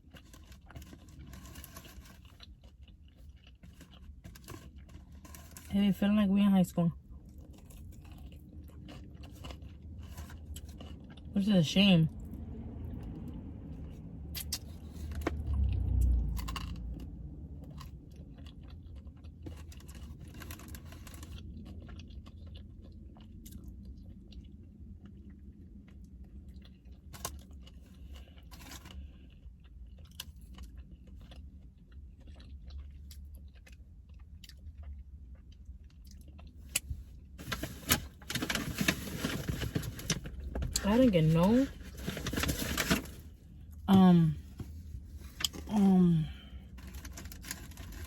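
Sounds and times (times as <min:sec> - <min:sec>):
chewing and crunching food: 0:00.0 - 0:06.1, 0:06.7 - 0:48.0.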